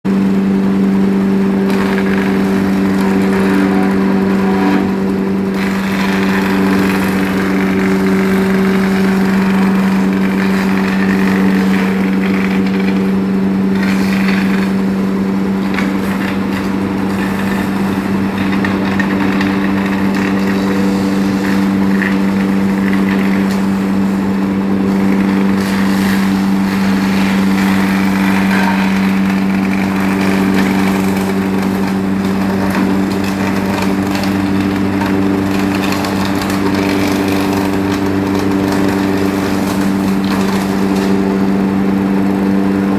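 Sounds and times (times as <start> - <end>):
wood chipper engine running: 0.0 - 42.9.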